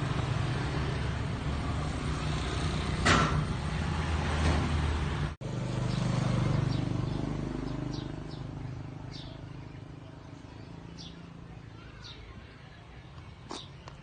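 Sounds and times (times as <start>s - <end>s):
vehicle engine passing: 0.0s - 11.8s.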